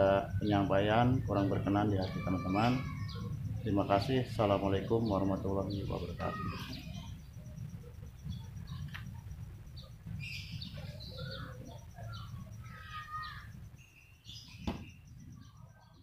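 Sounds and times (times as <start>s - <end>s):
low background rumble: 0.0s - 15.8s
small birds chirping: 0.0s - 16.0s.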